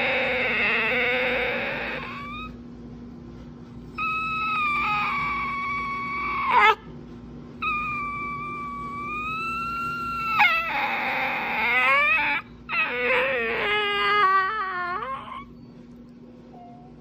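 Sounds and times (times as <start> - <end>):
dog whining and howling: 0.0 - 2.7, 3.9 - 6.9, 7.6 - 17.0.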